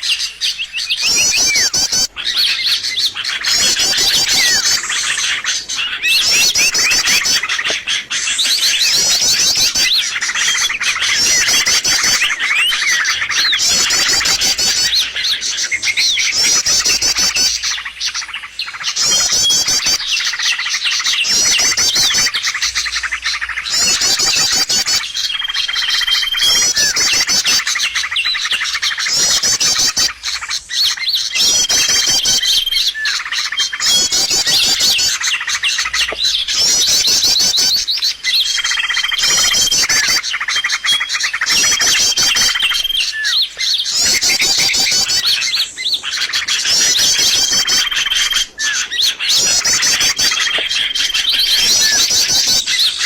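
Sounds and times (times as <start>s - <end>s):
songbirds chattering: 0.0s - 53.0s.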